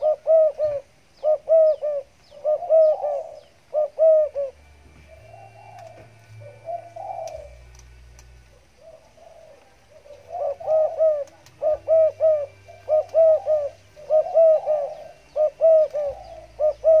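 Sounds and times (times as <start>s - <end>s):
dove cooing: 0.0s - 7.8s, 8.4s - 17.0s.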